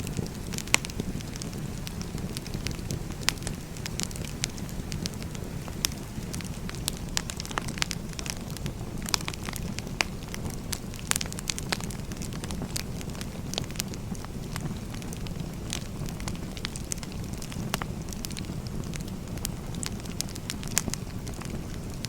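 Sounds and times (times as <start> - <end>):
fire crackles and pops: 0.0 - 22.0
firewood burning: 0.0 - 22.0.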